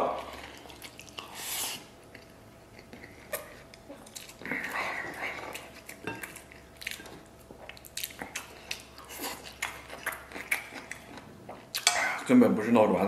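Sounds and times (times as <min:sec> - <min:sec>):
person chewing food: 0:00.1 - 0:12.2.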